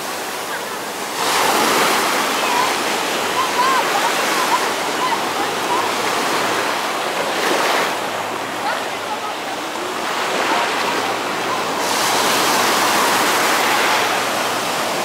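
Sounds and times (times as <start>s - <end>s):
small waves breaking on shore: 0.0s - 15.0s.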